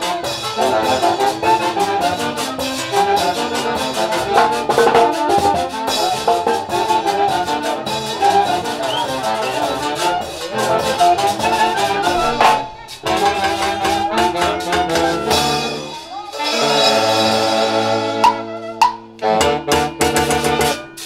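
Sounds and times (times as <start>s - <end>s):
steady drum beat: 0.0s - 16.2s, 18.2s - 21.0s
trumpets and horns playing: 0.0s - 21.0s.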